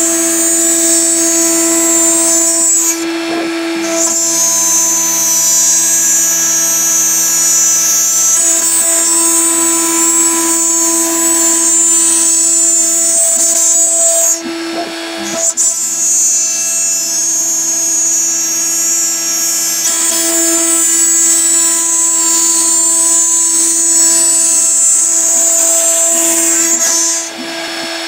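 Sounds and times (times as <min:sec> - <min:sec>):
router spindle whine: 0:00.0 - 0:28.0.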